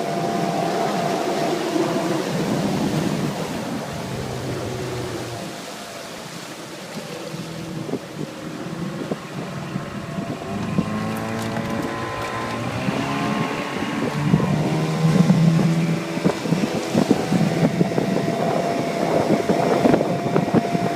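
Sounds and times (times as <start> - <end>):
outboard motor running: 0.0 - 20.9
wind on microphone: 0.0 - 20.9.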